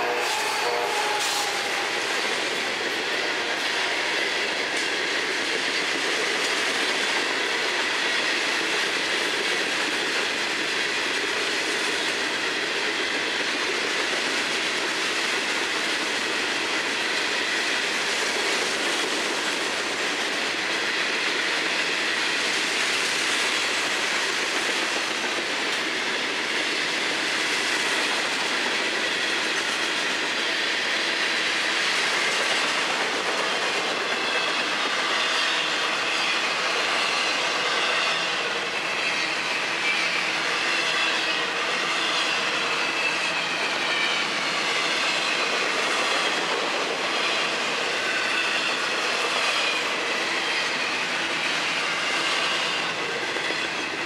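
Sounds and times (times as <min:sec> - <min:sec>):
steel wheels clattering on rails: 0:00.0 - 0:54.0.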